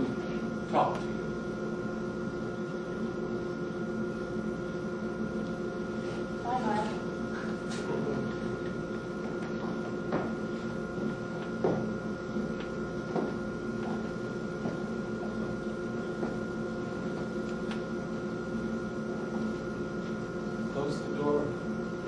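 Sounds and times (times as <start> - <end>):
air handling hum: 0.0 - 22.0.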